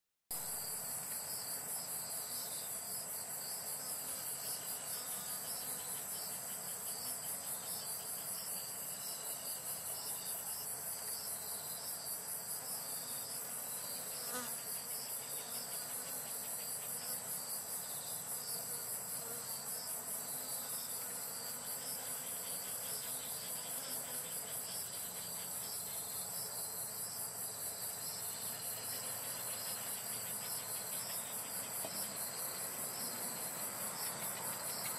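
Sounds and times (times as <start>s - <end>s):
faint insect chirps: 0.3s - 34.9s
insects high-pitched trill: 0.4s - 34.9s.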